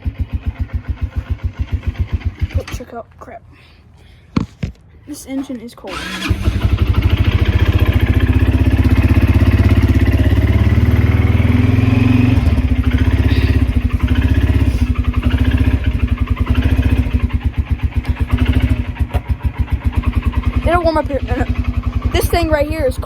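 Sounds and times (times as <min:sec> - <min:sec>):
engine idling unevenly: 0:00.0 - 0:03.0, 0:05.9 - 0:23.0.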